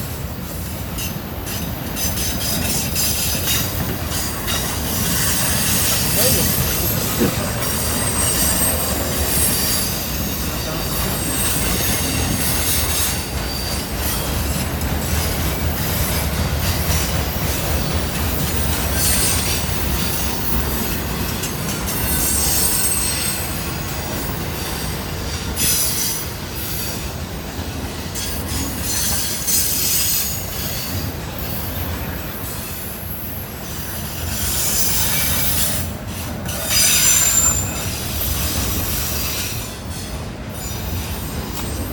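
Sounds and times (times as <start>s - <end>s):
train rolling on rails: 0.0s - 41.9s
train wheels squealing: 0.0s - 41.9s.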